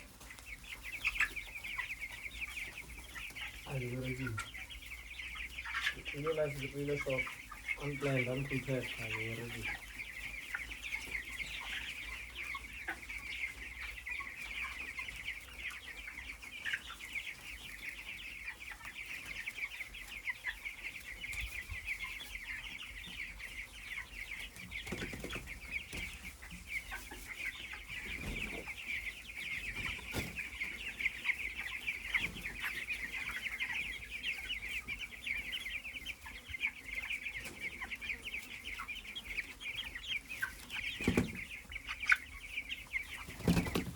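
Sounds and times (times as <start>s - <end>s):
flock of chickens cheeping: 0.0s - 43.9s.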